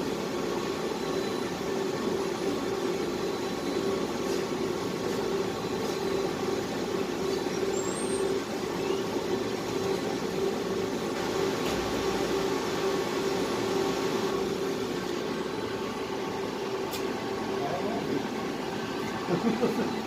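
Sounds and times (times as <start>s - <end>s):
laser engraver hum and whir: 0.0s - 20.0s.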